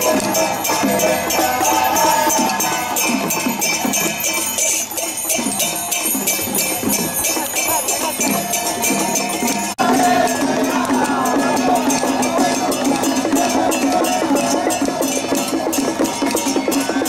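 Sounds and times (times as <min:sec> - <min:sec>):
jingling metal percussion: 0:00.0 - 0:17.0.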